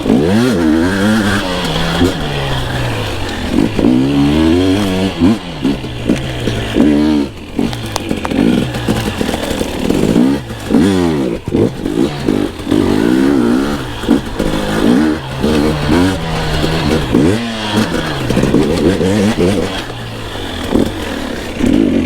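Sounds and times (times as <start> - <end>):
two-stroke dirt bike engine revving: 0.0 - 22.0.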